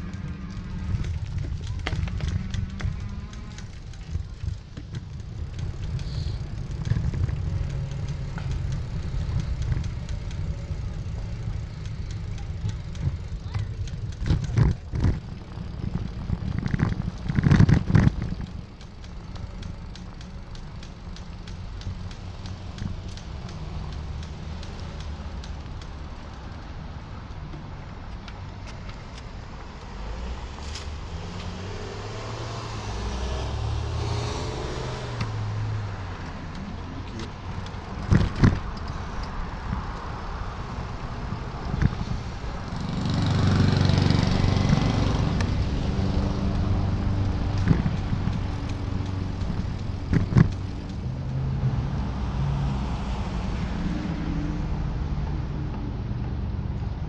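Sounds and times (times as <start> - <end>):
wind rumble on microphone: 0.0 - 20.0, 30.4 - 57.0
motor vehicle passing: 0.0 - 57.0
traffic: 0.0 - 57.0.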